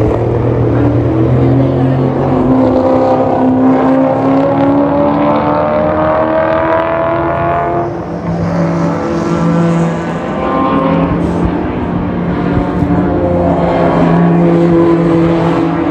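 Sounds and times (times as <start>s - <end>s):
racing car engine accelerating: 0.0s - 15.9s.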